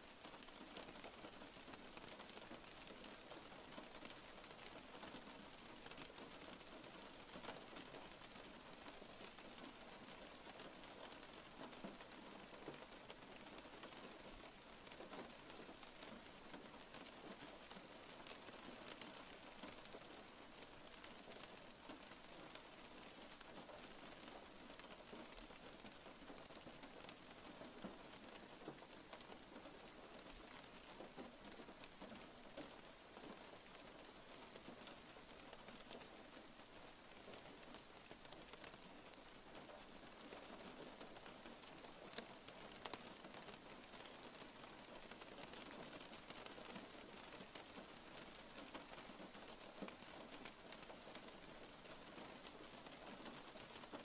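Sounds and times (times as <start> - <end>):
faint steady rain: 0.0 - 54.0.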